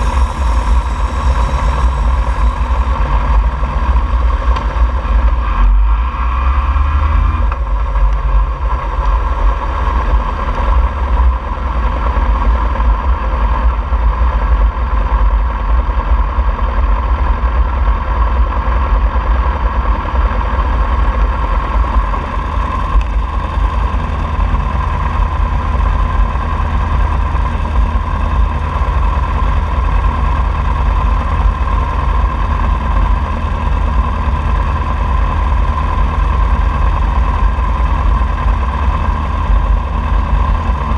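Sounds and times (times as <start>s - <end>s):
motorcycle engine low rumble: 0.0s - 40.9s.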